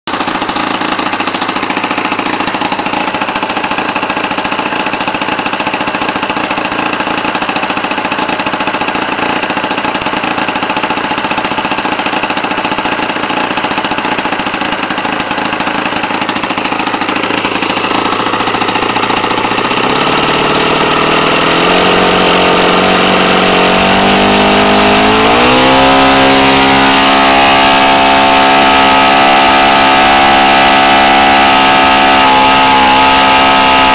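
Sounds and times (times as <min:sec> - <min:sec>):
model engine running: 0:00.1 - 0:33.9.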